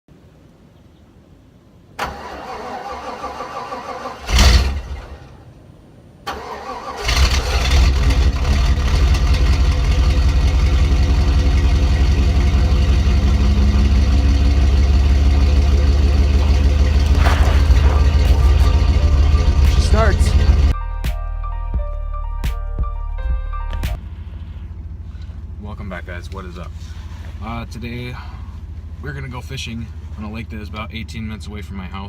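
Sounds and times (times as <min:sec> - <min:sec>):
vehicle engine cranking and idling: 0:02.0 - 0:05.5, 0:06.3 - 0:20.8, 0:24.0 - 0:32.0.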